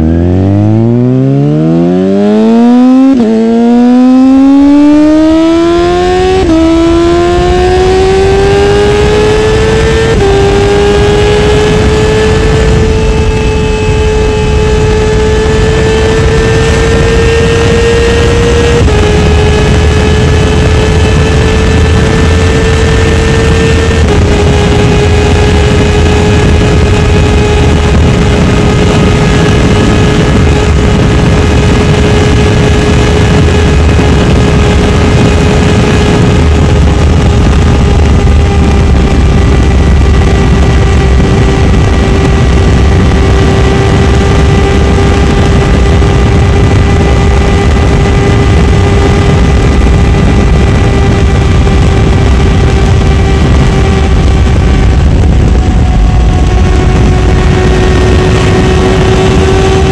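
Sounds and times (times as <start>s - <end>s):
motorcycle engine at high revs: 0.0s - 59.9s
wind roar on microphone: 0.0s - 59.9s.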